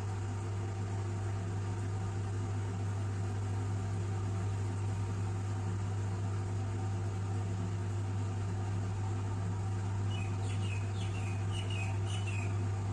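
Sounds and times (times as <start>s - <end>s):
washing machine humming: 0.0s - 12.9s.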